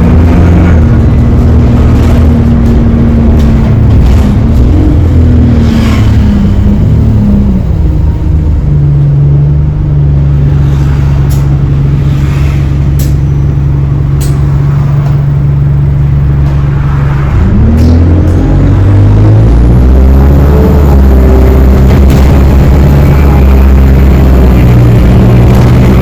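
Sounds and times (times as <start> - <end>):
bus axle whine: 0.0 - 26.0
low drivetrain hum: 0.0 - 26.0.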